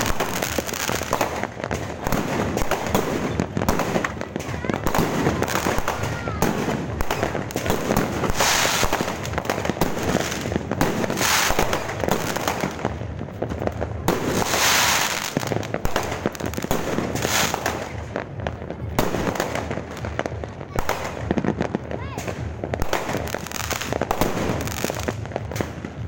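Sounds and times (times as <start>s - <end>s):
fireworks bangs and crackles: 0.0s - 26.0s
hissing firework crackle: 0.0s - 26.0s.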